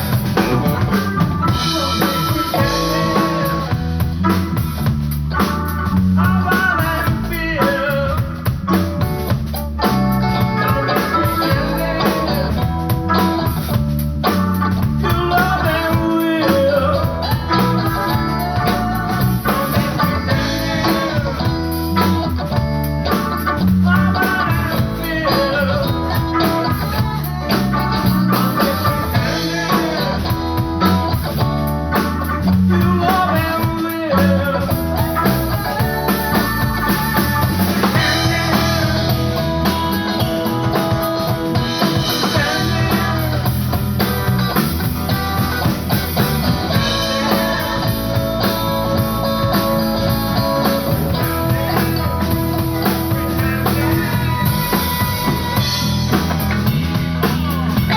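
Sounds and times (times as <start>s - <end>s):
drum kit: 0.0s - 57.9s
guitar: 0.0s - 57.9s.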